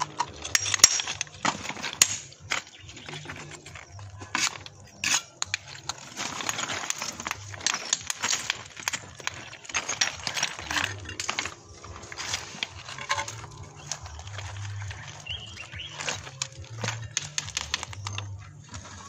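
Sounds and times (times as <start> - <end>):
trowel scraping: 0.0 - 19.0.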